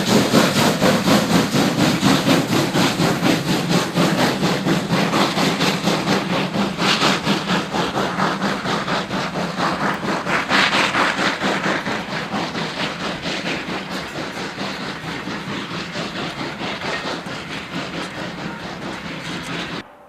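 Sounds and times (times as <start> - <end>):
steam locomotive exhaust beating: 0.0 - 20.0.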